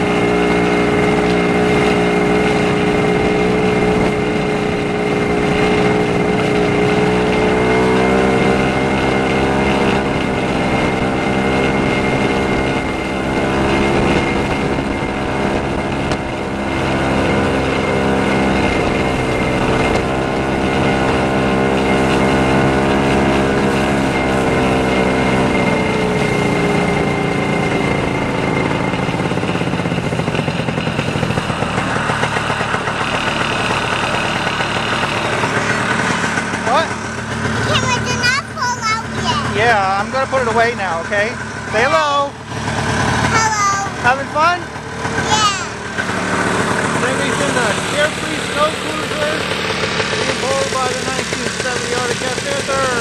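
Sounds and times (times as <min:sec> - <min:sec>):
snowmobile two-stroke engine running: 0:00.0 - 0:53.0.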